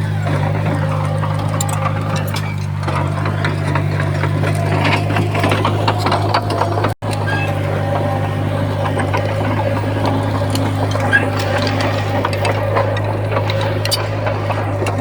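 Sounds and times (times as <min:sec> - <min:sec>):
bulldozer diesel engine running: 0:00.0 - 0:15.0
small clicks and rattles: 0:00.1 - 0:15.0.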